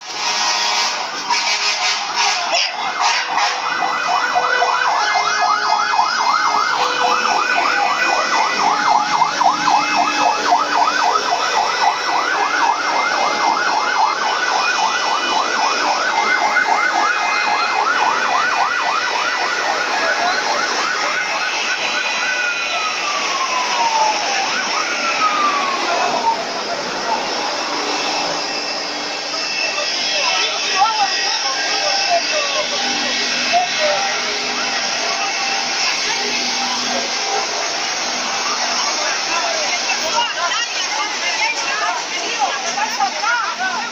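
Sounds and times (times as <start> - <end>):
fire engine siren: 0.0 - 43.9.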